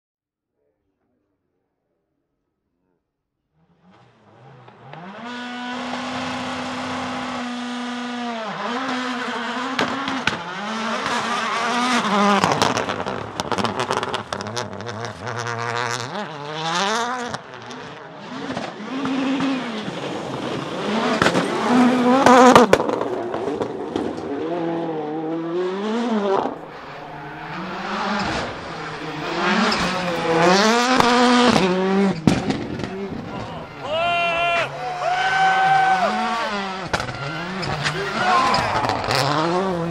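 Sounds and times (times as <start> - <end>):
engines revving hard: 3.6 - 39.9.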